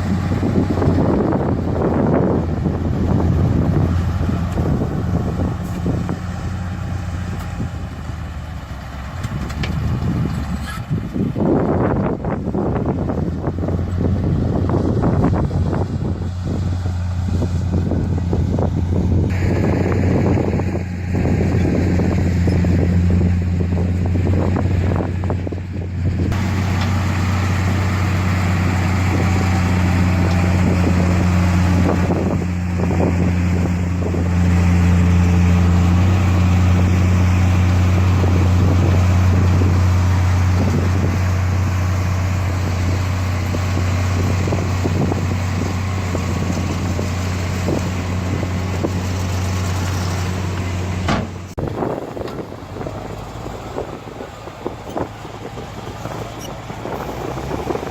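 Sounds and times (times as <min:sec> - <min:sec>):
heavy diesel machinery running: 0:00.0 - 0:57.9.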